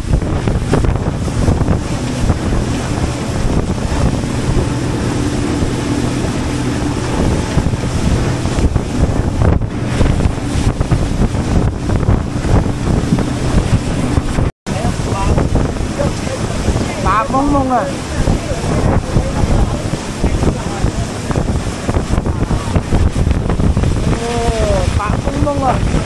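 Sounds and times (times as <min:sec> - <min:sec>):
boat engine running: 0:00.0 - 0:26.0
water rushing past hull: 0:00.0 - 0:26.0
wind buffeting microphone: 0:00.0 - 0:26.0.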